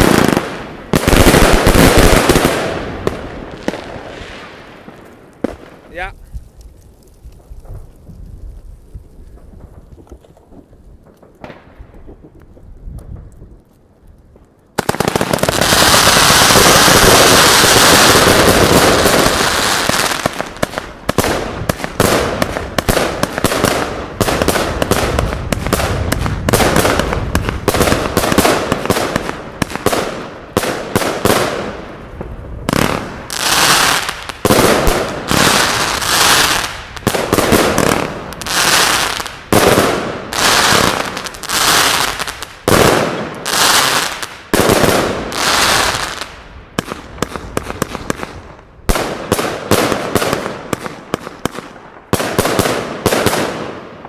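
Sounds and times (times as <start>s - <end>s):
firework battery bursts and crackling: 0.0s - 54.0s.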